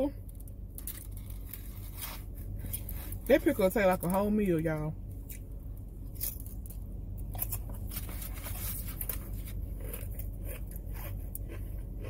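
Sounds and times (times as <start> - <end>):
steady low hum: 0.0 - 12.0
cracker crunching while chewing: 0.2 - 3.3, 5.2 - 12.0.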